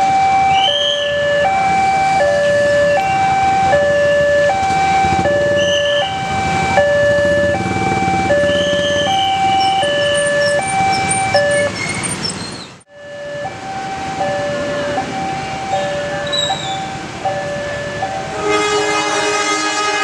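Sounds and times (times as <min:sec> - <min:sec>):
two-tone crossing alarm: 0:00.0 - 0:20.0.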